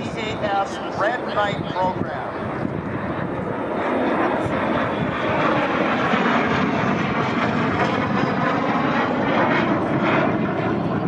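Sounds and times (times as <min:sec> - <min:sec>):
loud steady jet noise: 0:00.0 - 0:11.0.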